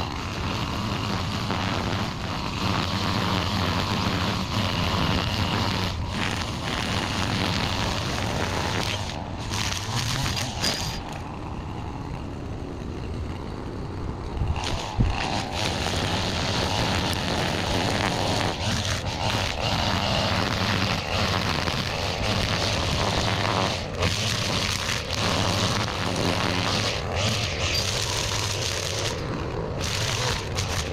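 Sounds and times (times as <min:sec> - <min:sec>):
small gas engine running: 0:00.0 - 0:30.9.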